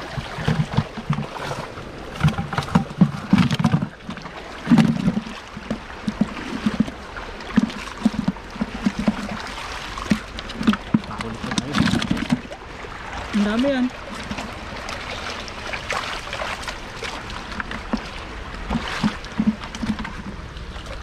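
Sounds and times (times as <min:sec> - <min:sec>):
stream water splashing: 0:00.0 - 0:21.0.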